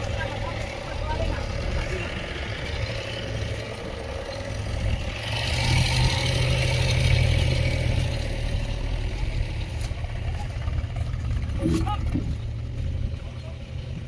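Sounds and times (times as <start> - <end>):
heavy diesel engine revving: 0.0 - 14.0.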